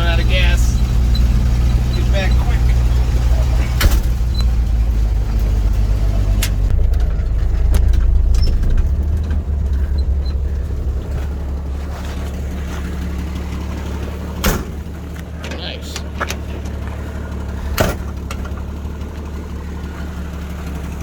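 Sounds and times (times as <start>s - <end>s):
knocks and rattles: 0.0s - 18.8s
truck engine under load: 0.0s - 21.0s.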